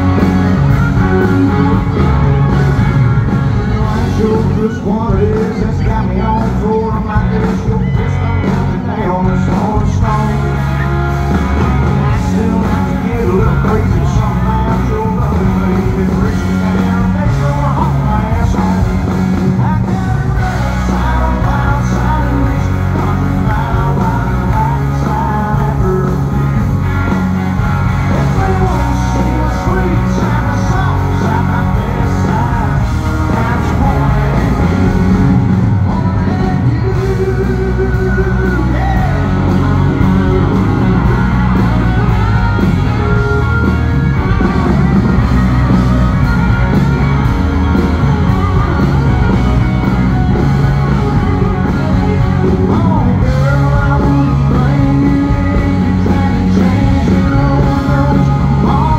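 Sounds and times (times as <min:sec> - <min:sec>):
man singing: 0:00.0 - 0:47.2, 0:48.2 - 0:58.9
live country band: 0:00.0 - 0:58.9.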